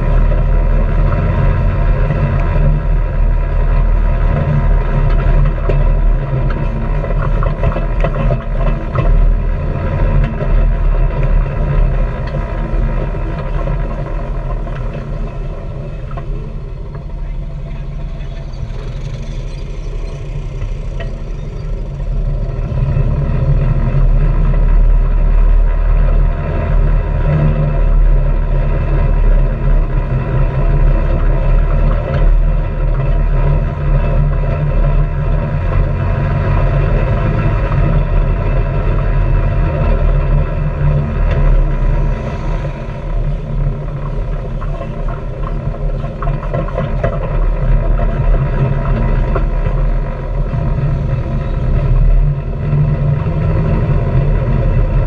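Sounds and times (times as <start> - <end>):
engine running with low rumble: 0.0 - 55.0.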